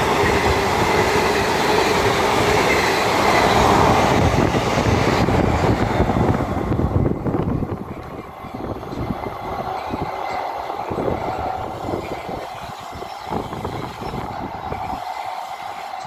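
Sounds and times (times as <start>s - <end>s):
steady tone from rails: 0.0s - 16.0s
train wheels clattering on rails: 0.0s - 16.0s.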